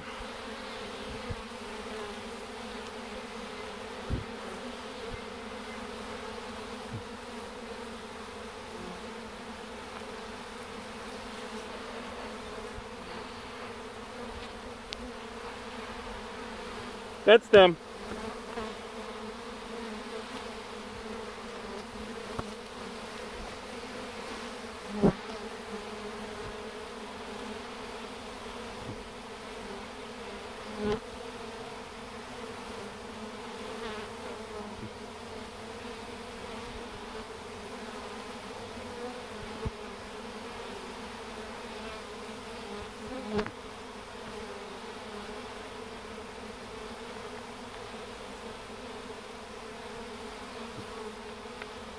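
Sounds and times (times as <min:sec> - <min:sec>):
bee swarm humming: 0:00.0 - 0:51.9
single bee flying close: 0:00.0 - 0:51.9.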